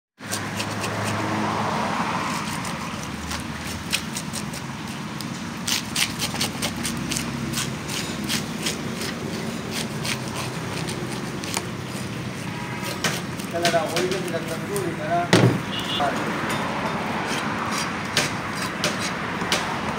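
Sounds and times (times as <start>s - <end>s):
knife scraping fish scales: 0.2s - 15.0s, 16.1s - 19.3s.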